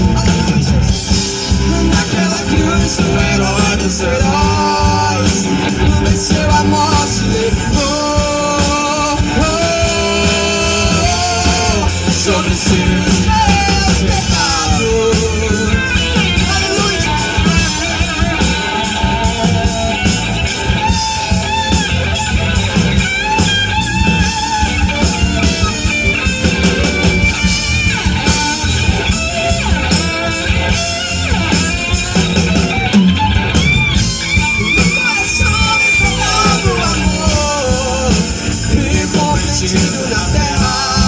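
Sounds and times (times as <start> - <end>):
bass and drums: 0.0 - 41.0
lead guitar melody: 0.0 - 41.0.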